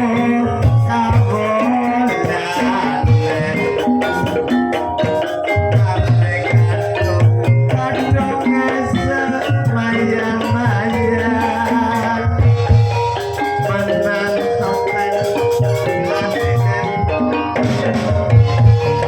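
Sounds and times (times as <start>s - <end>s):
rattling percussion: 0.0s - 19.0s
steady drum beat: 0.0s - 19.0s
struck mallet percussion melodies: 0.0s - 19.0s.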